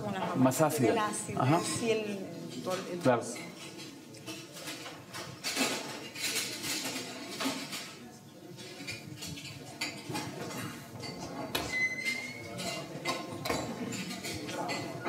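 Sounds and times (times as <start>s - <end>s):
dishes and pots clattering: 1.6s - 15.0s.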